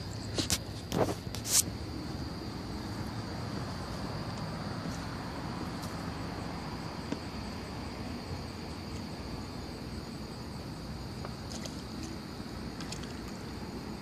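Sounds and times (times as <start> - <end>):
even hiss: 0.0 - 14.0
high insect drone: 0.0 - 14.0.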